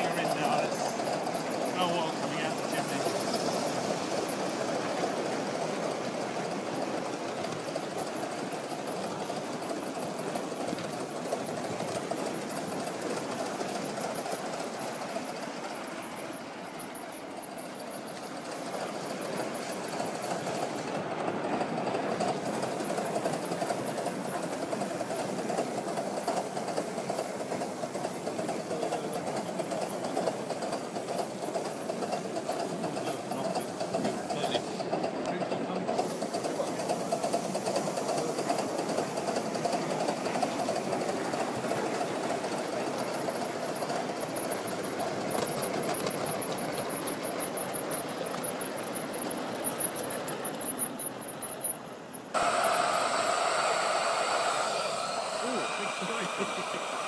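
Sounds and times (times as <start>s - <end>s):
model steam locomotive running: 0.0s - 57.0s.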